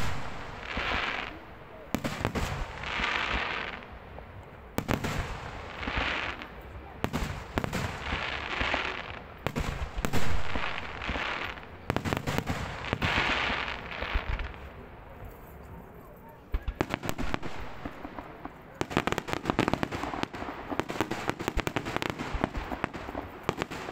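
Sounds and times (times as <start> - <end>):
fireworks bangs: 0.0 - 14.9, 16.0 - 23.9
fireworks hiss and crackle: 0.0 - 23.9.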